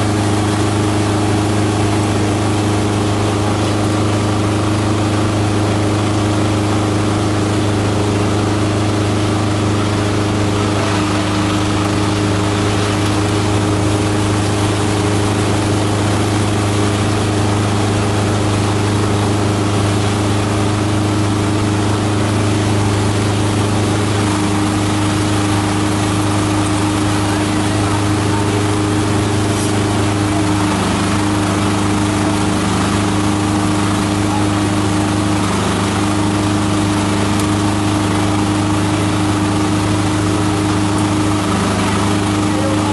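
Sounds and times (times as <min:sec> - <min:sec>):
chopper motor humming: 0:00.0 - 0:42.9.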